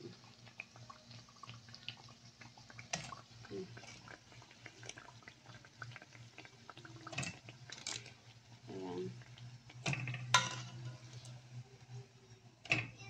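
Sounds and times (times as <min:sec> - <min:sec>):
low steady hum: 0:00.0 - 0:13.0
oil crackling and popping: 0:00.0 - 0:13.0.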